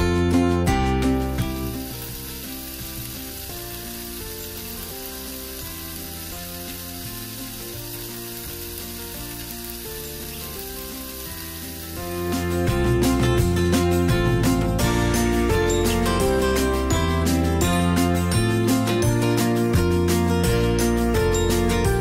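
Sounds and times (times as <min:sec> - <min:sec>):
quiet background music: 0:00.0 - 0:22.0
vegetables sizzling in a pan: 0:01.1 - 0:19.8.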